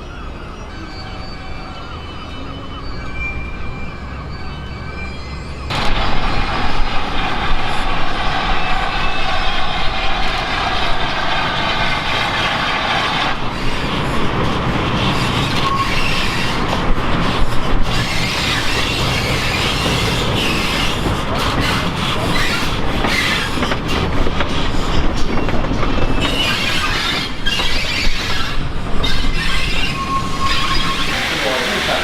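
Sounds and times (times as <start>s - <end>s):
steam train running: 0.2s - 32.0s.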